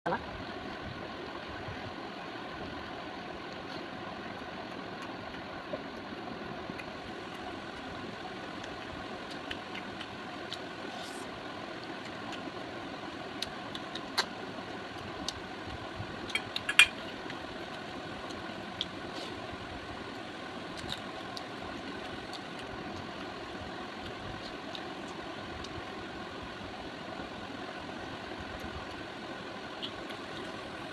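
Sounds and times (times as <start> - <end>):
mechanical hum: 0.1 - 30.9.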